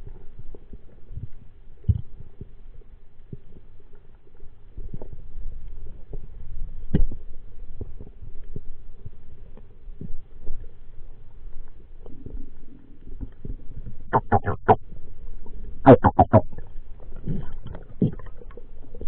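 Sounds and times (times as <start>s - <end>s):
soft underwater knocks and clicks: 0.0s - 10.8s, 11.4s - 19.0s
muffled underwater rumble: 0.0s - 19.0s.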